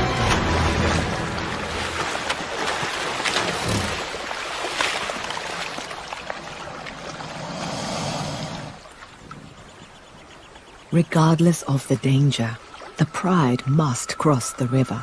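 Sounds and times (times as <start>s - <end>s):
water splashing and churning: 0.0s - 14.5s.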